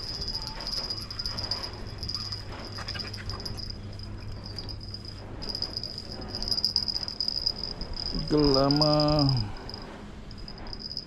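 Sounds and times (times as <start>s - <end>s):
crickets trilling: 0.0s - 11.0s
faint high calls: 0.0s - 11.0s
steady low hum: 0.0s - 11.0s.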